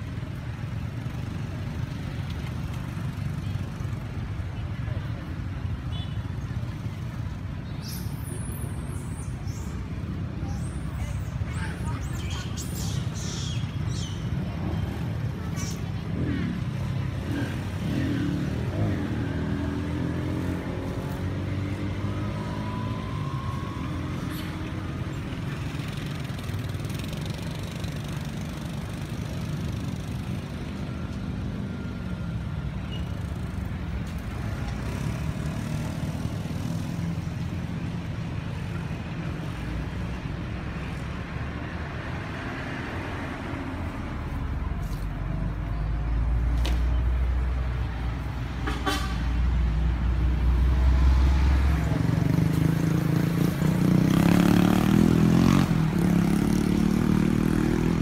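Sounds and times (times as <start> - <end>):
vehicle engines rumbling: 0.0 - 58.0.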